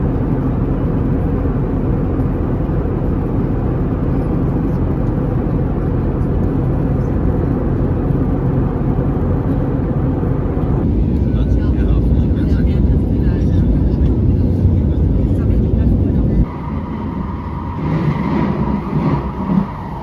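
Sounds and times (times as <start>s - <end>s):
vehicle rumbling in motion: 0.0s - 20.0s.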